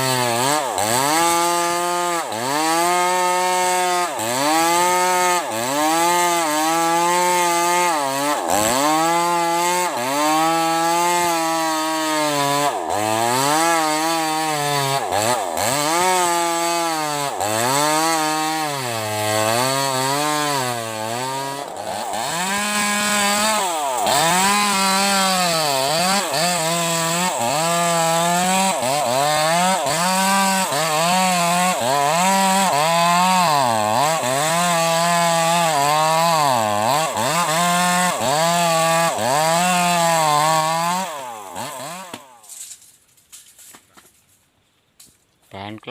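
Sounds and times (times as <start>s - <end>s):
chainsaw cutting wood: 0.0s - 44.2s.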